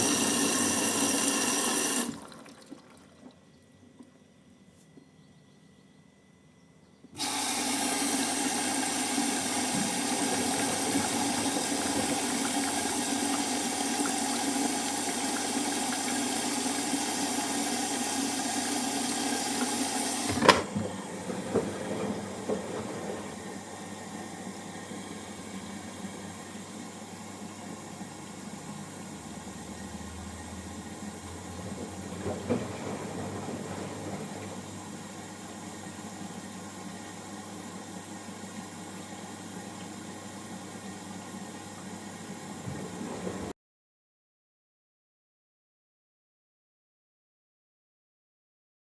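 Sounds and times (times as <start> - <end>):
water running: 0.0 - 4.2, 7.2 - 43.5.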